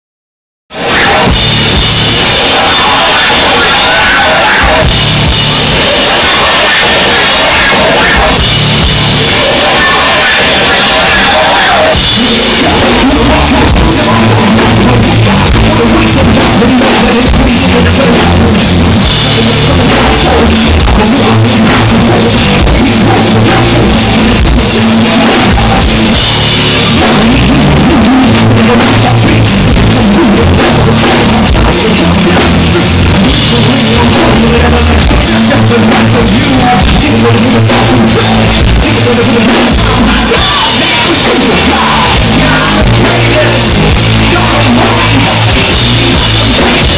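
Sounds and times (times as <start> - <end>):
drum kit: 0.7 - 46.9
electric guitar: 0.7 - 46.9
live rock band: 0.7 - 46.9
person singing: 0.8 - 1.4, 2.2 - 5.0, 5.6 - 46.9.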